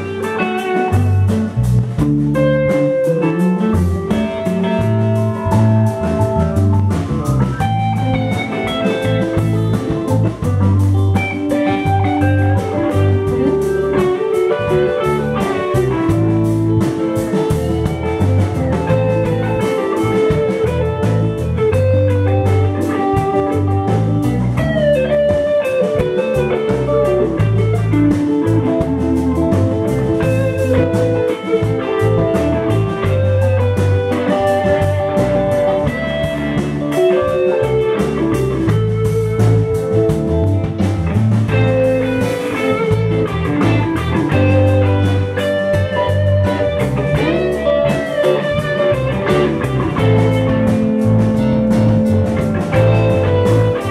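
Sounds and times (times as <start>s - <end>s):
drums keeping a steady beat: 0.0s - 53.9s
electric guitars: 0.0s - 53.9s
keyboard: 0.0s - 53.9s.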